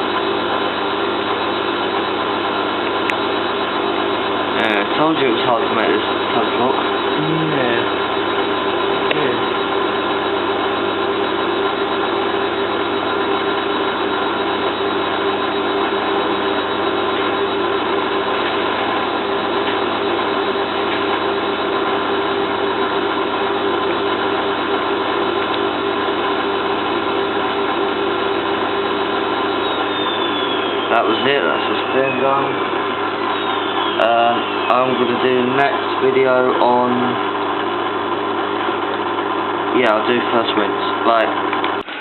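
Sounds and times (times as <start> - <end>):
washing machine spinning: 0.0 - 42.0
washing machine whine: 0.0 - 42.0.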